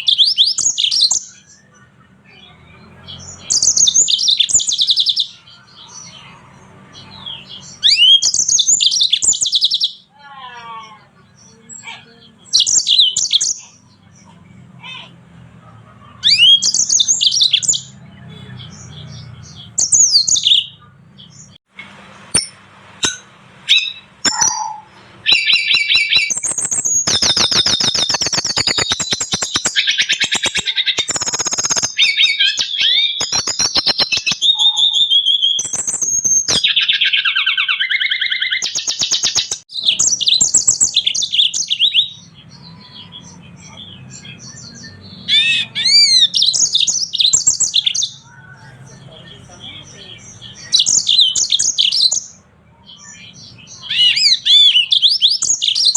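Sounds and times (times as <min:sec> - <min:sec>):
finches singing: 0:00.0 - 0:21.7, 0:23.1 - 0:55.9.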